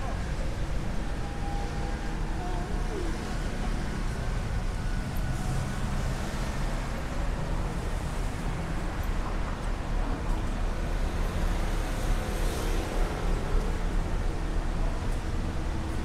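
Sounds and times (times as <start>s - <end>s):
cars passing on street: 0.0s - 16.0s.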